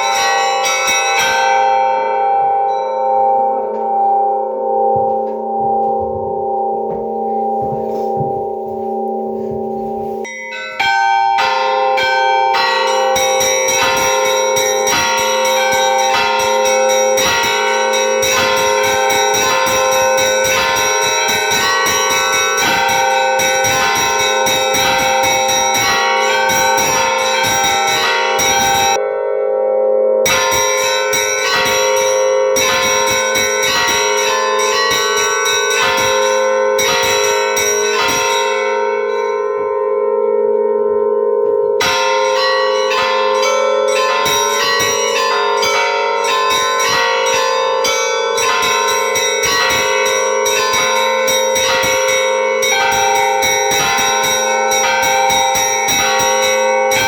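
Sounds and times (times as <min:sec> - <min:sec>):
church bells pealing: 0:00.0 - 0:57.0.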